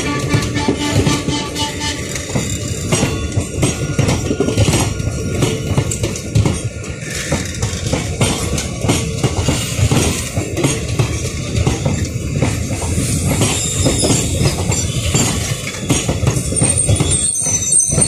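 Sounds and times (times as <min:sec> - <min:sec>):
train clattering and rattling: 0:00.0 - 0:18.0
train wheels rushing on rails: 0:00.0 - 0:18.0.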